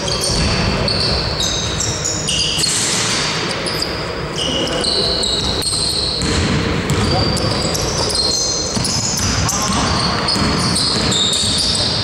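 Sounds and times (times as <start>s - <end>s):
sneakers squeaking on court: 0.0s - 12.0s.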